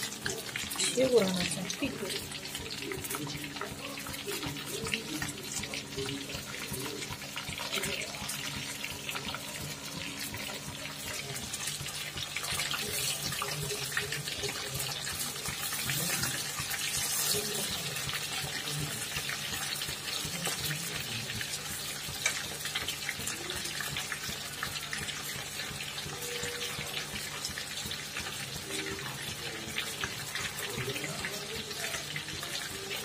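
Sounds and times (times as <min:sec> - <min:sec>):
chicken deep-frying with crackles: 0:00.0 - 0:33.0.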